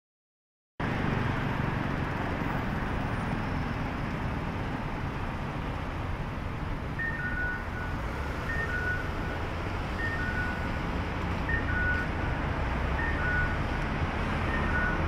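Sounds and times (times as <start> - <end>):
passing car traffic: 0.8 - 15.0.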